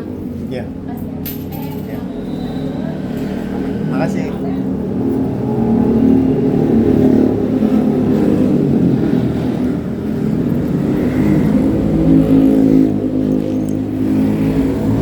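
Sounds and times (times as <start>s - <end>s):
motorcycle engine revving: 2.2s - 15.0s.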